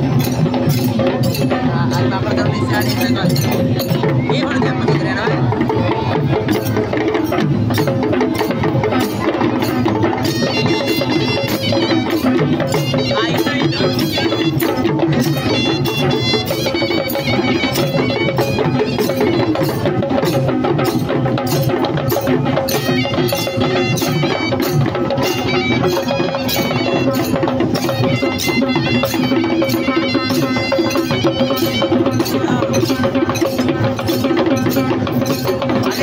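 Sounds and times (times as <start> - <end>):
drums beating: 0.0 - 36.0
small metal cymbals: 0.0 - 36.0.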